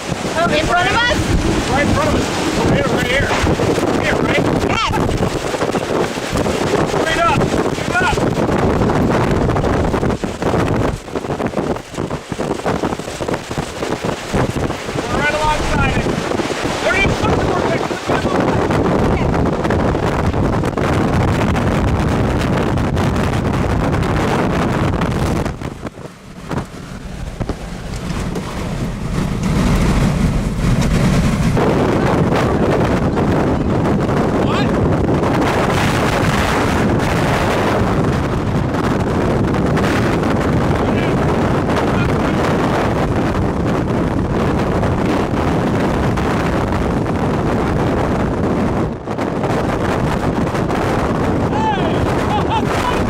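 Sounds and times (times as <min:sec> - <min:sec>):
strong wind on microphone: 0:00.0 - 0:53.0.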